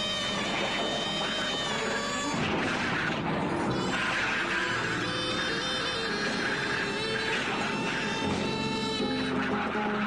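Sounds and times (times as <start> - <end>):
film music with held tones: 0.0 - 10.0.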